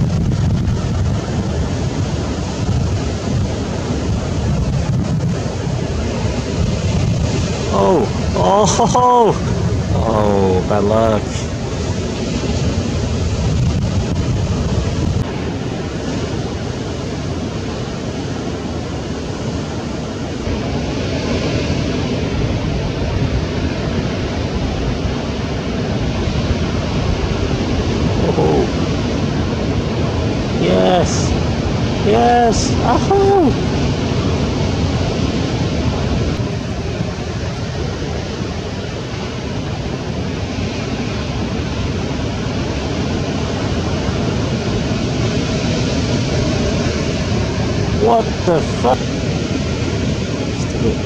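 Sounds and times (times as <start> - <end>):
ocean surf: 0.0 - 51.0
wave breaking: 0.0 - 51.0
wind buffeting microphone: 0.0 - 51.0.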